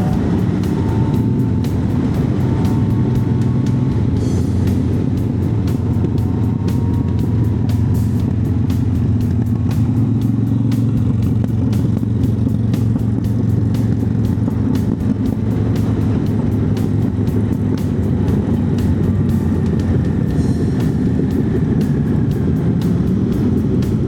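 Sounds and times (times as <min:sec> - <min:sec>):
motorcycle engine drone: 0:00.0 - 0:24.0
wind and road noise: 0:00.0 - 0:24.0.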